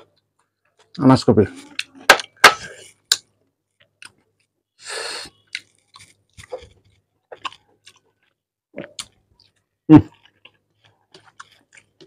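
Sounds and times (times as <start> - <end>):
person chewing food: 1.6 - 12.0.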